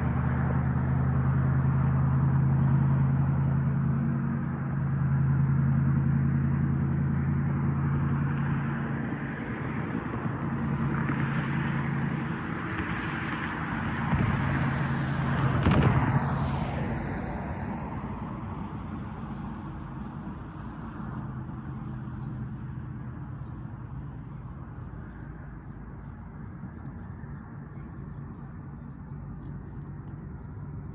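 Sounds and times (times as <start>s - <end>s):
engine hum: 0.0s - 30.9s
vehicles passing on street: 0.0s - 30.9s.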